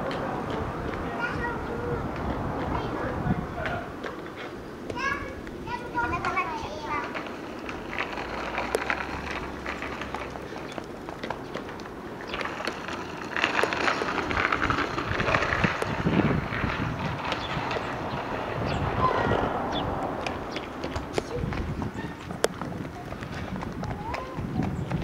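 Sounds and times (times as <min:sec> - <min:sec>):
child's bicycle rolling: 0:00.0 - 0:25.0
children's footsteps on asphalt: 0:00.0 - 0:25.0
wind buffeting microphone: 0:00.0 - 0:25.0.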